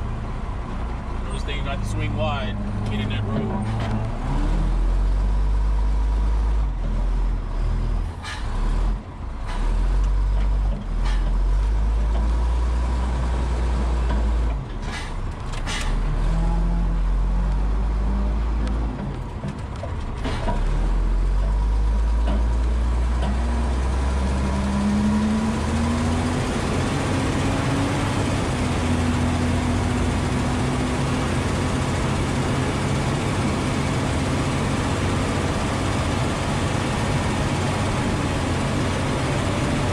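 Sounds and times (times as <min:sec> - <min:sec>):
diesel truck engine rumbling: 0:00.0 - 0:39.9.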